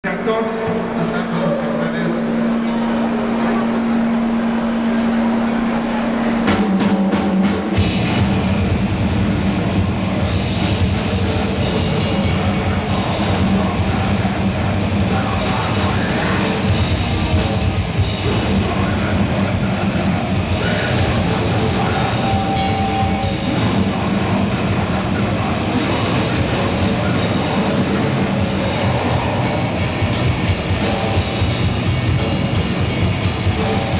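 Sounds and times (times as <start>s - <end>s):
rock band playing loudly: 0.0s - 33.9s.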